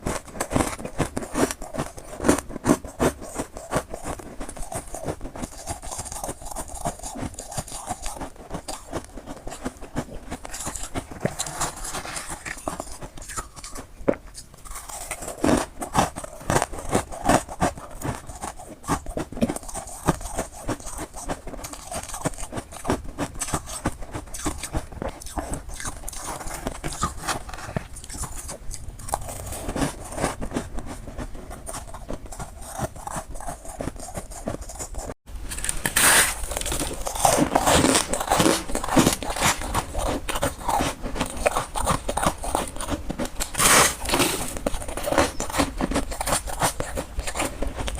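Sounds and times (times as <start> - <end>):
crunching ice while chewing: 0.0 - 47.9.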